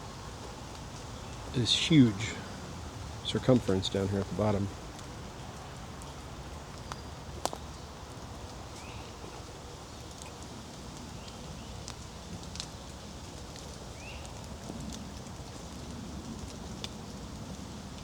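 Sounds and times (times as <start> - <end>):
steady hiss: 0.0 - 18.0
water dripping on leaves: 0.0 - 18.0.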